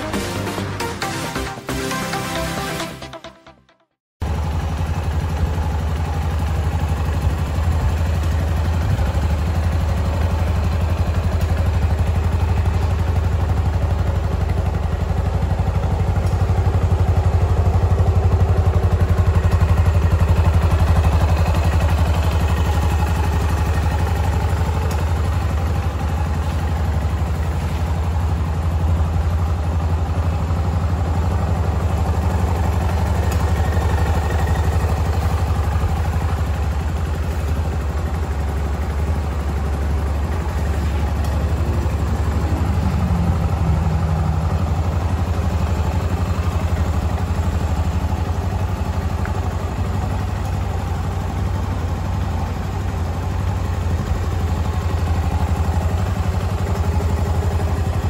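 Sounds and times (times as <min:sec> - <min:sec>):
motorcycle engine idling: 0:04.2 - 0:58.0.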